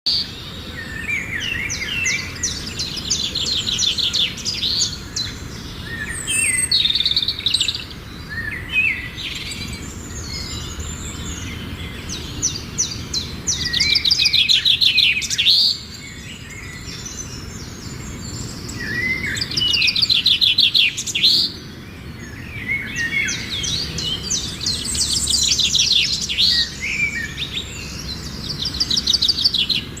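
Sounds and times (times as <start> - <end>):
flock of waterbirds calling: 0.1 - 30.0.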